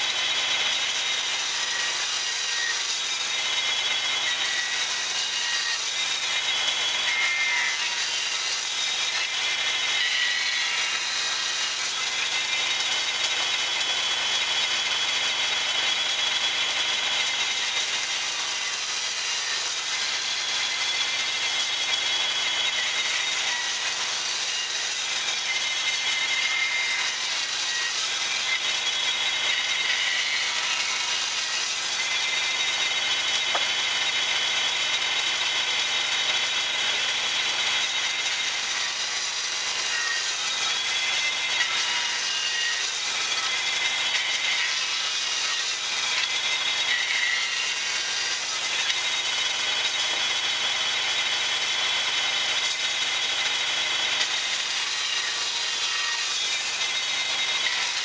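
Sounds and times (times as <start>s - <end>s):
band saw cutting wood: 0.0s - 58.0s
sawmill engine running: 0.0s - 58.0s.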